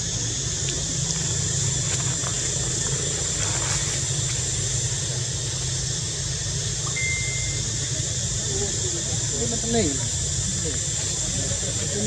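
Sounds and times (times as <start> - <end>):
high-pitched hiss: 0.0 - 12.0.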